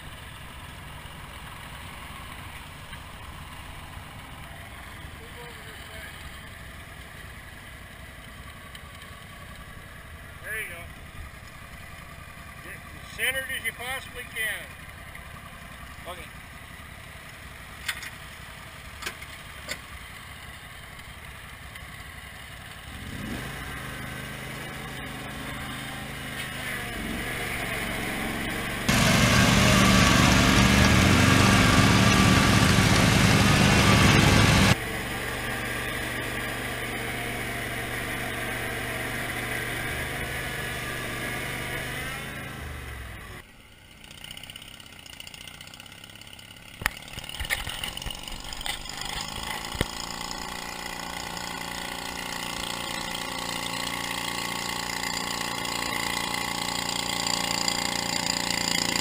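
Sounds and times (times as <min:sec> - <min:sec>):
garden tractor engine: 0:00.0 - 0:59.0.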